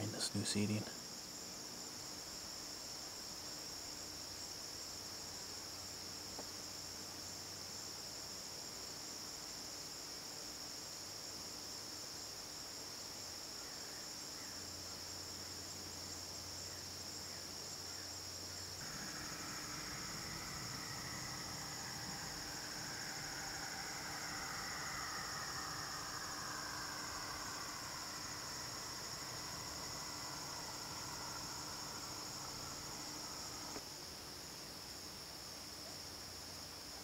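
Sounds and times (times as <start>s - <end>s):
crickets and insects trilling: 0.0s - 37.0s.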